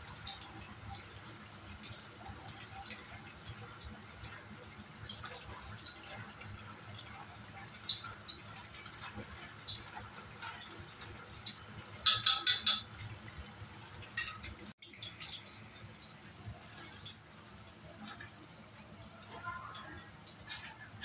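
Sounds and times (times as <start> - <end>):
oil crackling and popping: 0.0 - 21.0.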